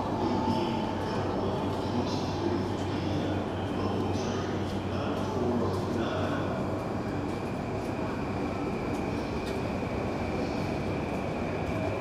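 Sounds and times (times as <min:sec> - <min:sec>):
constant high whine: 0:00.0 - 0:12.0
train rumble: 0:00.0 - 0:12.0.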